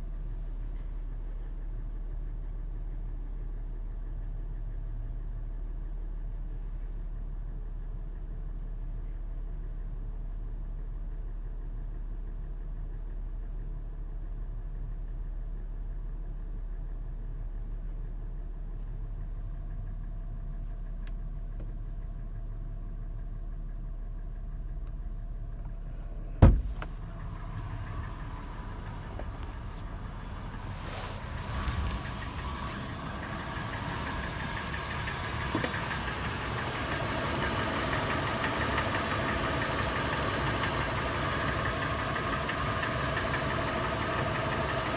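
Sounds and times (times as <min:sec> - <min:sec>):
engine idling with tapping: 0:00.0 - 0:44.9.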